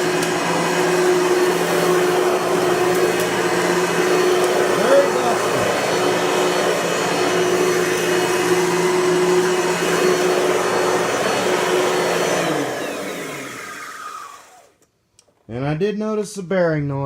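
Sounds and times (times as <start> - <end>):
vacuum cleaner running: 0.0 - 14.8
vacuum motor winding down: 0.0 - 14.8.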